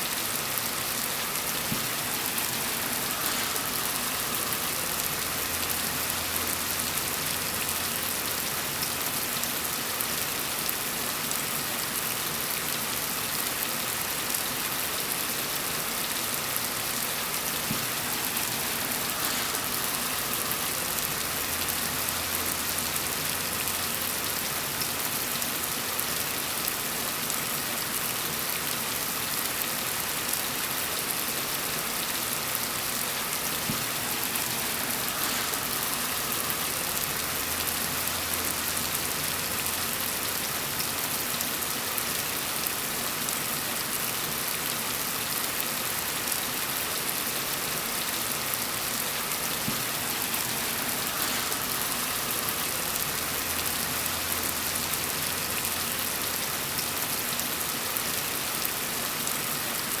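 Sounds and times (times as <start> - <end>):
gentle rain falling: 0.0 - 60.0.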